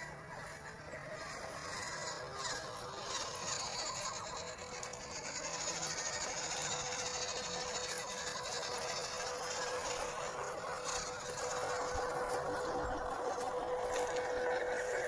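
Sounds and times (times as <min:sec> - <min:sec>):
electric motor and gearbox whine: 0:00.0 - 0:15.0.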